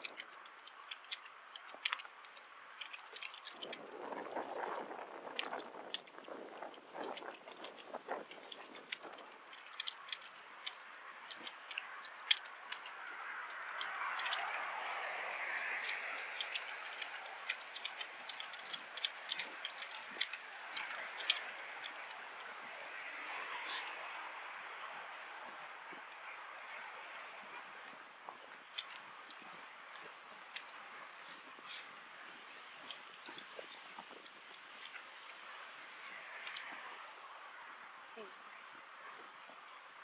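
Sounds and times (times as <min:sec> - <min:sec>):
bicycle clicks and rattles: 0:00.0 - 0:36.8.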